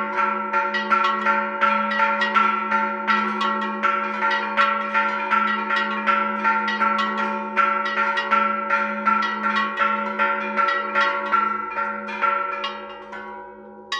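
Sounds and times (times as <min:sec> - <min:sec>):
church bells ringing: 0:00.0 - 0:13.9
low hum of large bell: 0:00.0 - 0:13.9.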